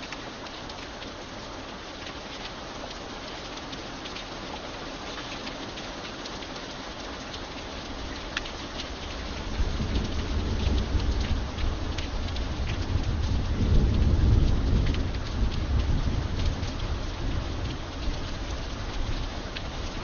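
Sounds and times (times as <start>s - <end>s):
steady rain falling: 0.0s - 20.0s
drops ticking on a surface: 2.0s - 20.0s.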